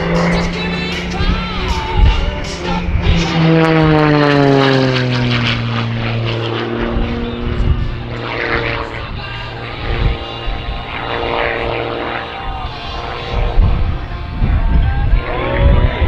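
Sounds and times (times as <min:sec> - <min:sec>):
propeller plane engine passing: 0:00.0 - 0:16.0.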